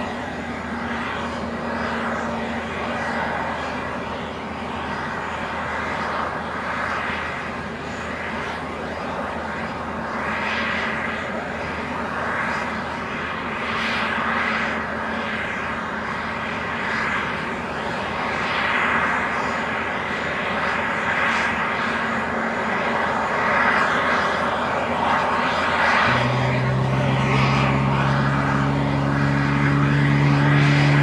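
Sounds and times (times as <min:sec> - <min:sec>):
jet engines hissing and humming: 0:00.0 - 0:31.0.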